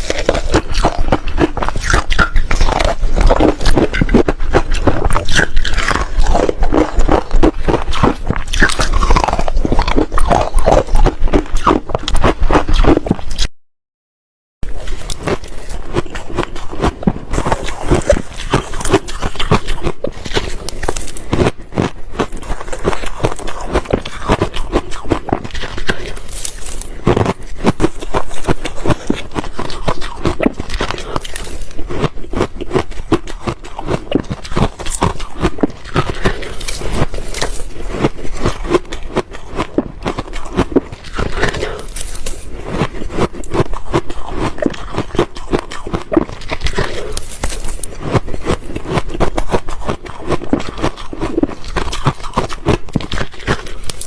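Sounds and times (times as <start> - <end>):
ice crunched between teeth: 0.0 - 13.5, 14.8 - 54.0.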